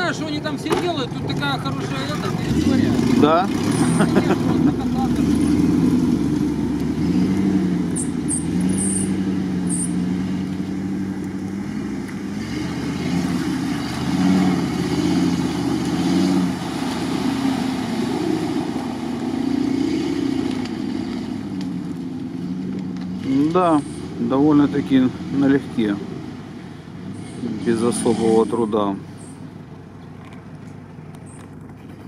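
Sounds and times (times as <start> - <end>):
engine revving in mud: 0.0 - 32.0.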